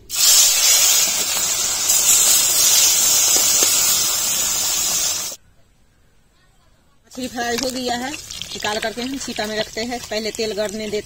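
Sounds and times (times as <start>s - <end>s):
fish sizzling in hot oil: 0.0s - 5.4s, 7.2s - 11.0s.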